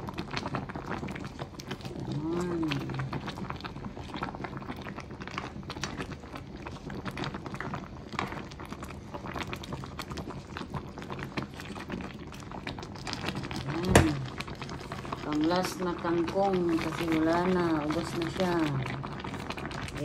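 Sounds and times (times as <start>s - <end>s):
broth bubbling: 0.0s - 20.0s.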